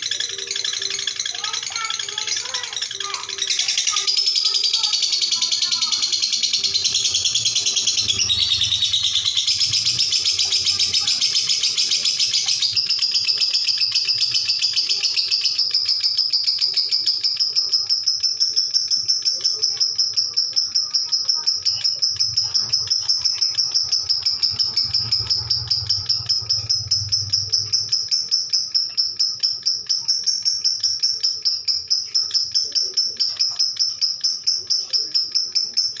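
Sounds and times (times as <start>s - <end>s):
lovebird rattling trill: 0.0s - 36.0s.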